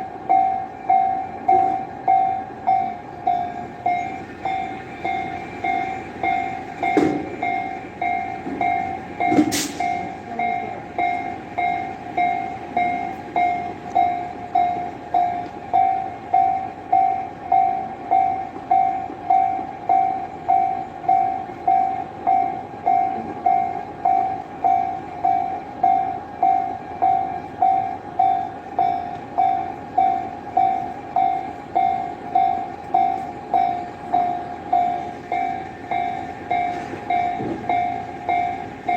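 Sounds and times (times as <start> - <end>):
level crossing alarm ringing: 0.0 - 38.9.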